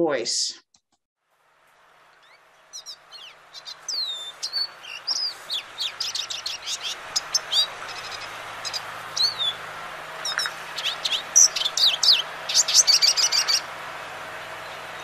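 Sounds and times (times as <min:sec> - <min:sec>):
goldfinch song: 0:02.1 - 0:15.0.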